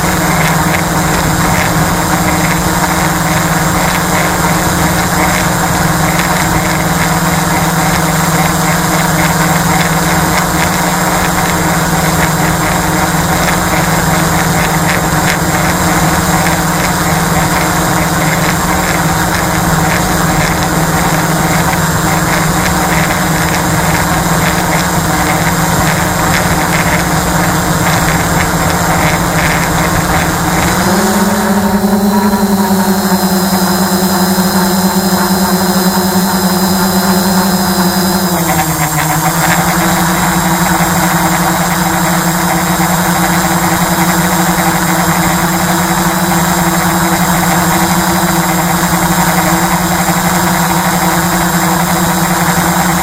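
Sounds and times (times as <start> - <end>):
drone propellers humming: 0.0 - 53.0.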